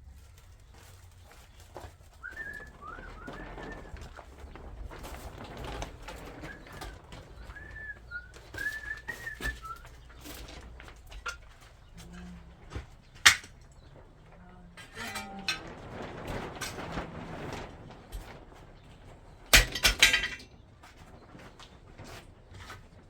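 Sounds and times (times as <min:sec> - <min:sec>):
knocks and clatter: 0:01.7 - 0:23.0.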